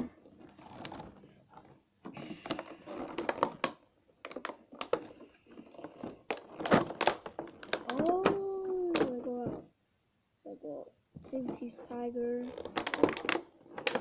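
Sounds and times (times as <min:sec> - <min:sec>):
hands handling plastic toy: 0:00.2 - 0:09.7, 0:11.4 - 0:14.0.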